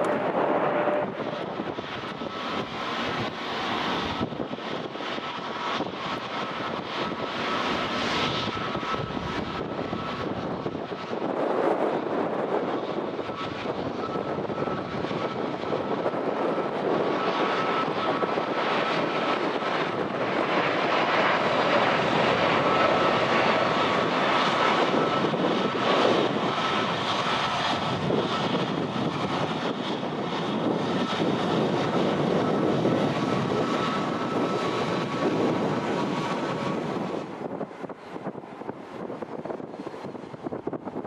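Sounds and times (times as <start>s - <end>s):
jet engines rushing and whining: 0.0s - 41.0s.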